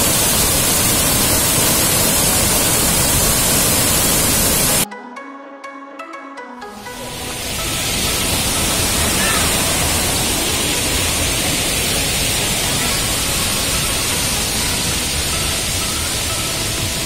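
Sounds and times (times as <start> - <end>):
waterfall rushing: 0.0 - 4.8, 6.9 - 17.0.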